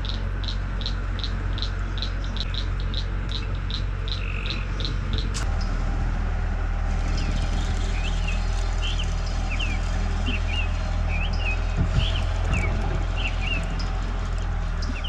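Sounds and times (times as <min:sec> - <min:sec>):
small bird chirping: 0:00.0 - 0:05.8, 0:07.1 - 0:15.0
steady low rumble: 0:00.0 - 0:15.0.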